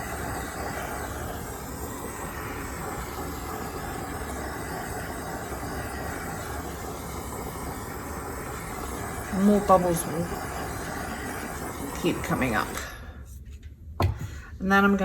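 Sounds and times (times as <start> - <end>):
heat gun blowing hot air: 0.0 - 13.2.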